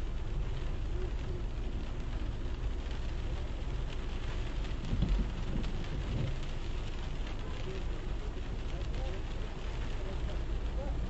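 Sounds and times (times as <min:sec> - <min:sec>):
low rumble of traffic: 0:00.0 - 0:11.0
rain and tyres on wet road: 0:00.0 - 0:11.0.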